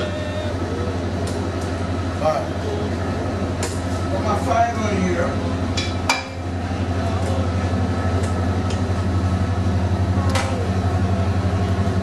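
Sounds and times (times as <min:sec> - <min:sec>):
kitchen equipment humming: 0:00.0 - 0:12.0.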